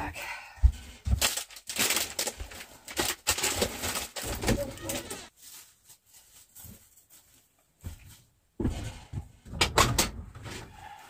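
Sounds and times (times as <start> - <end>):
groceries rustling and knocking: 0.6 - 11.0.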